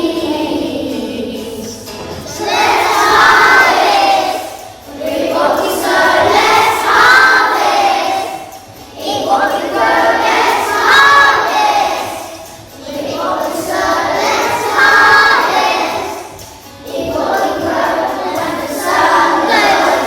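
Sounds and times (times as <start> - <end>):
children singing in unison: 0.0 - 20.0.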